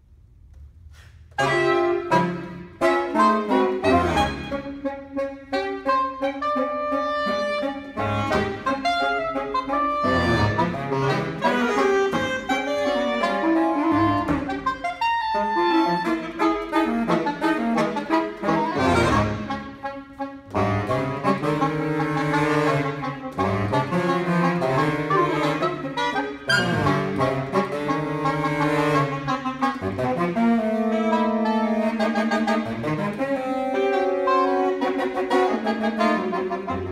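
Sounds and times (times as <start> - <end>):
low baritone saxophone notes: 0.5 - 36.9
saxophone quartet playing: 0.9 - 36.9.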